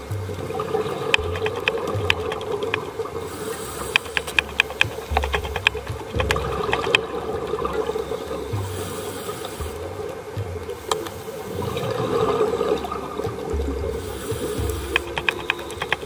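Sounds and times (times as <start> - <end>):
water bubbling underwater: 0.0 - 16.0
sharp clicks: 0.1 - 7.9, 8.6 - 11.9, 13.7 - 16.0.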